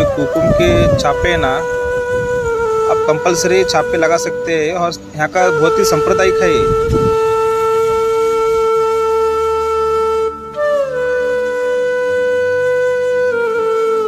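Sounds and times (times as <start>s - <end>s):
flute-like wind instrument: 0.0s - 14.0s.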